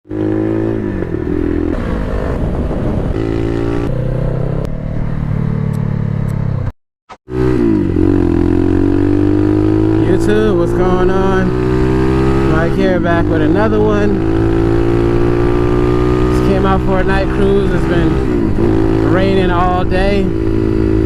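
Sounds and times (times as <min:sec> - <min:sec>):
motorcycle engine running: 0:00.1 - 0:21.0.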